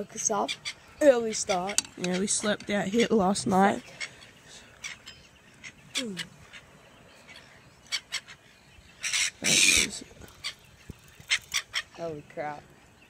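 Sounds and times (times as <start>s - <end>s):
bird chirps and calls: 0.0s - 13.0s.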